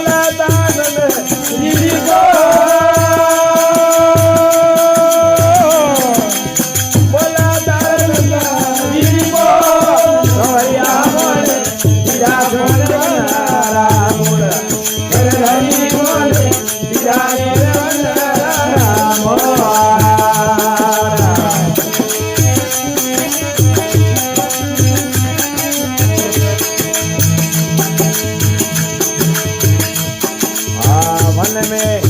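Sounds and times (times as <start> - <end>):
even drum beat: 0.0 - 32.0
folk devotional song melody: 0.0 - 32.0.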